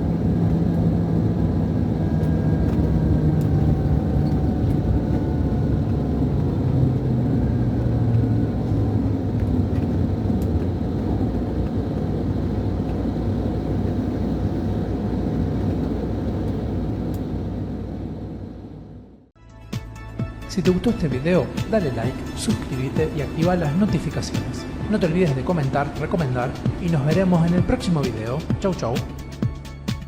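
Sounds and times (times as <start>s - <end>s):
coach diesel engine rumble: 0.0s - 19.3s, 21.0s - 29.4s
road noise: 0.0s - 19.3s, 20.8s - 29.4s.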